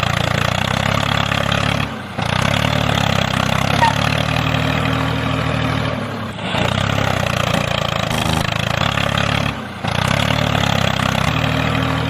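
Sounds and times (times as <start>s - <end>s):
small tractor engine running: 0.0s - 12.0s.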